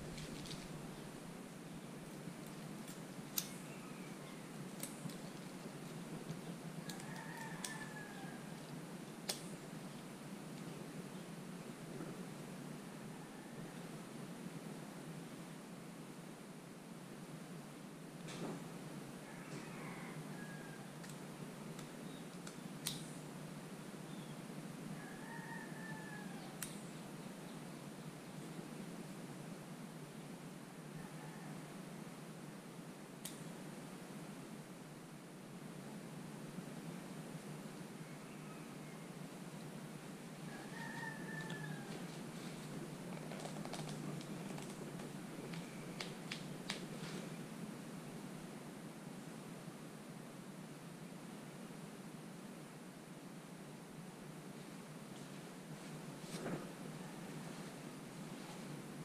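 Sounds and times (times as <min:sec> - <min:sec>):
steady low hiss: 0:00.0 - 0:59.0.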